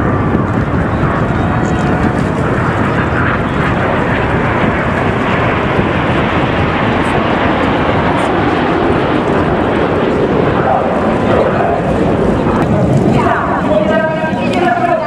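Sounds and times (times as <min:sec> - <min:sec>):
jet engine in flight: 0:00.0 - 0:15.0.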